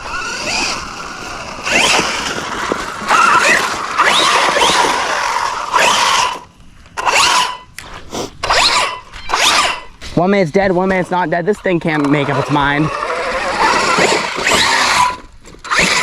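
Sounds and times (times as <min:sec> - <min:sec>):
electric motor whining: 0:00.0 - 0:10.1, 0:12.0 - 0:16.0
tyres scrabbling over gravel: 0:00.0 - 0:16.0.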